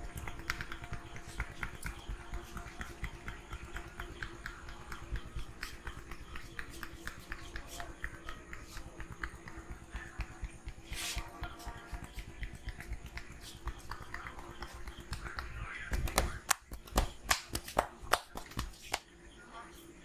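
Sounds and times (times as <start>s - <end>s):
hands tapping a scalp: 0.0s - 19.0s.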